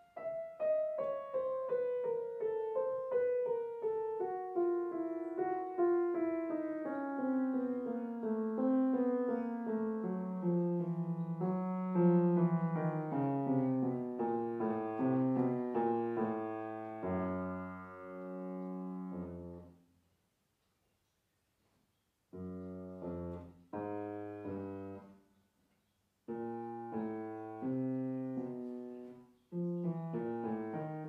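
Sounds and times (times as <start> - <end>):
grand piano playing: 0.0 - 19.7, 22.4 - 25.1, 26.3 - 31.0.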